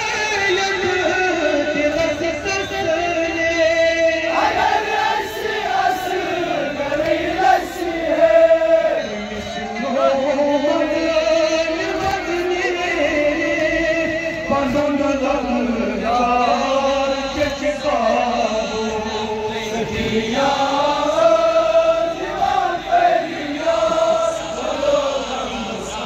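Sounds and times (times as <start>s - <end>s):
men chanting together: 0.4s - 26.0s.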